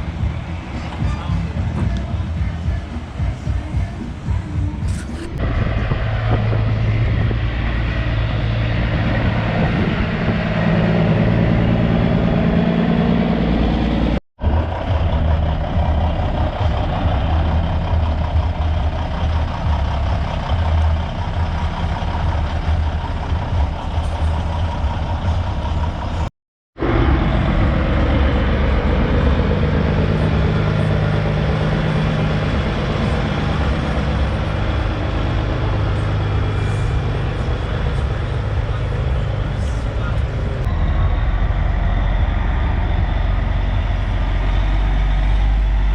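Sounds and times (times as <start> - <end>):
truck engines running low: 0.0 - 45.9.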